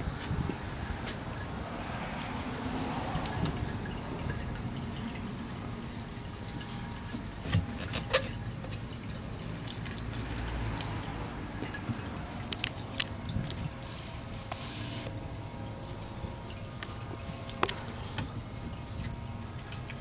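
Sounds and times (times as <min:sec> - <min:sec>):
gasoline trickling into can: 0:02.9 - 0:20.0.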